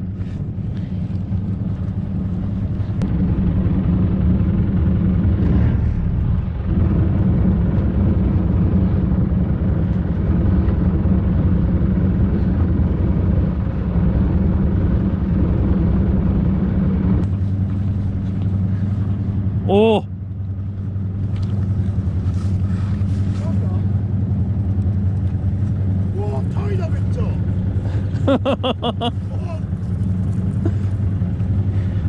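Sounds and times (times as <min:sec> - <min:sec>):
boat engine idling: 0:00.0 - 0:32.0.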